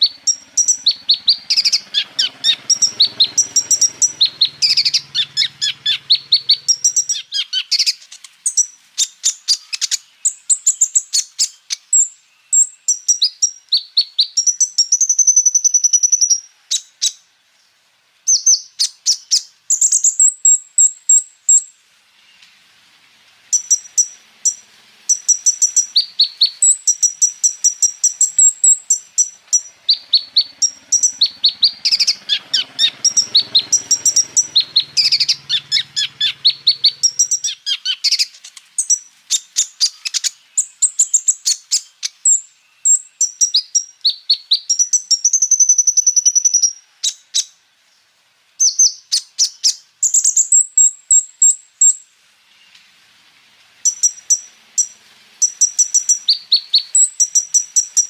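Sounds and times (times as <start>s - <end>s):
small bird singing rapid chirps: 0.0s - 22.6s, 23.4s - 52.8s, 53.8s - 58.0s.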